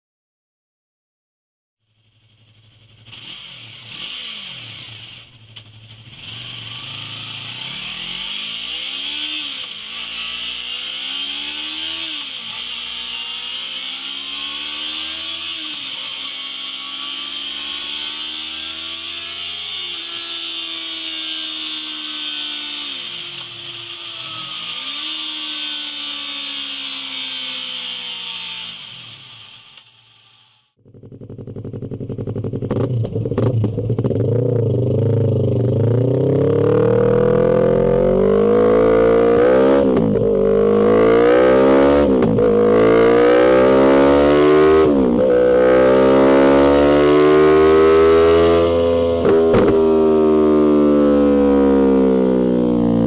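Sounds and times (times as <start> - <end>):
motorcycle engine revving: 1.8 - 29.8, 30.7 - 53.0.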